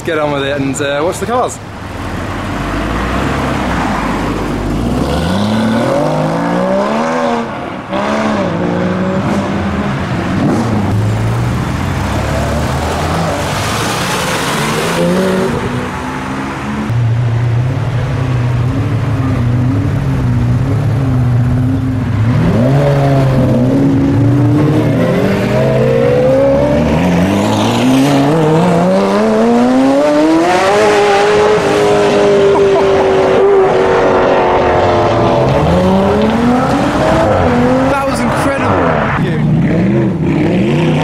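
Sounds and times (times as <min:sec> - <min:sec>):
car engines accelerating: 0:00.0 - 0:41.0
car rushing past: 0:01.7 - 0:41.0.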